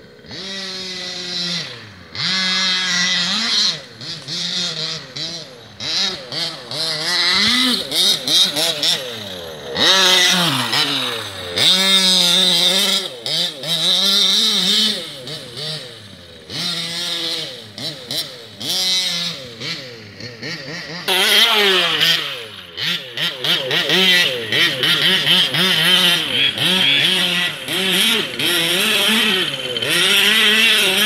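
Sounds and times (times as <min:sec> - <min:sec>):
small two-stroke engines revving: 0:00.0 - 0:31.0.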